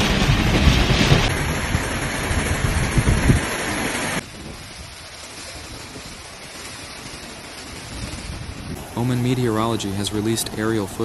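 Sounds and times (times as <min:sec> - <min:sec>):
gusting wind: 0:00.0 - 0:11.0
heavy rain: 0:00.0 - 0:11.0
wind buffeting microphone: 0:00.0 - 0:11.0.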